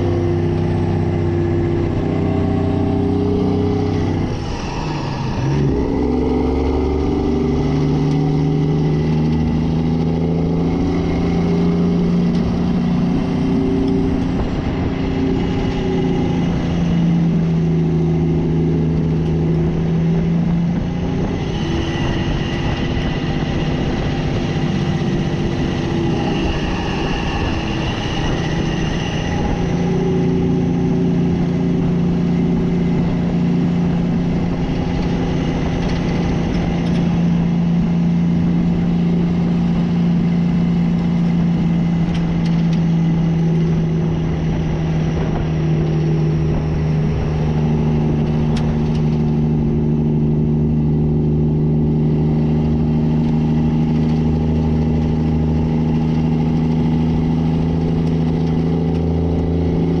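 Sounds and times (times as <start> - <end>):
truck diesel engine running: 0.0 - 60.0.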